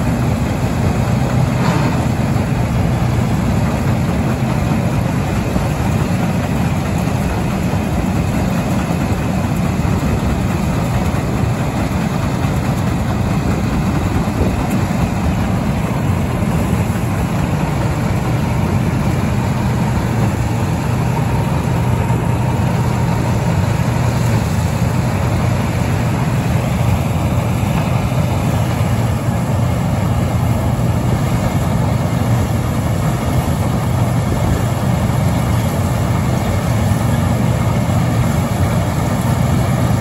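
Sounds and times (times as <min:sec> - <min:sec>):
combine harvester running: 0:00.0 - 0:40.0.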